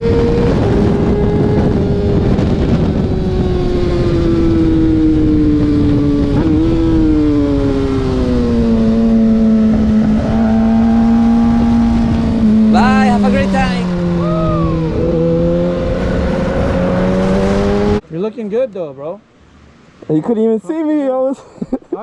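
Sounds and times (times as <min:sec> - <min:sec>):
wind rush over microphone: 0:00.0 - 0:18.0.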